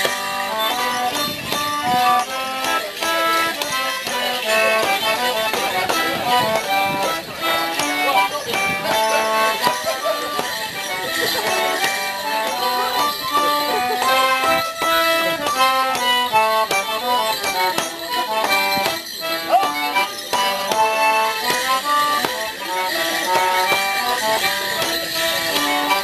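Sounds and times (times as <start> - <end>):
folk dance tune: 0.0 - 26.0.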